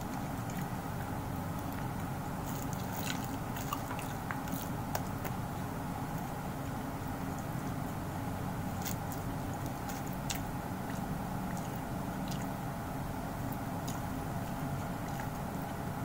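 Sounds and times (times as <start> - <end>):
person chewing wetly: 0.0 - 16.0
steady low hum: 0.0 - 16.0.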